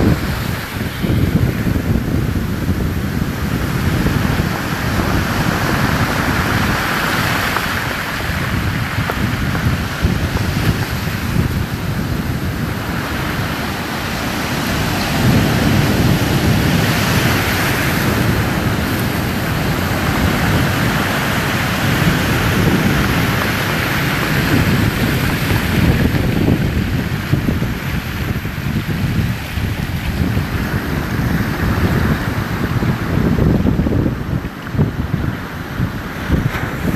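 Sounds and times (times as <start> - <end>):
waves breaking: 0.0 - 36.9
wind buffeting microphone: 0.0 - 36.9.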